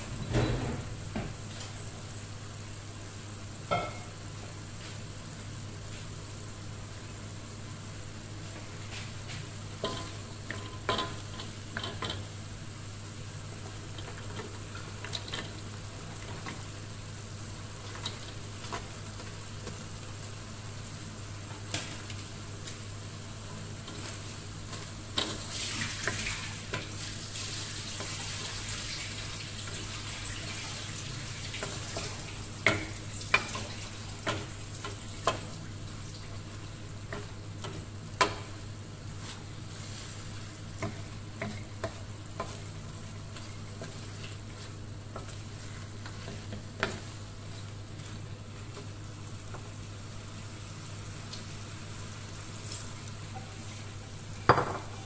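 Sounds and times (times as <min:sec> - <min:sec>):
food sizzling in a wok: 0:00.0 - 0:55.0.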